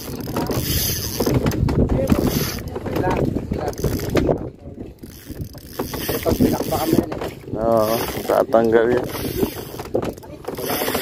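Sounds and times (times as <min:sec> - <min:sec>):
fishing reel whirring: 0:00.0 - 0:11.0.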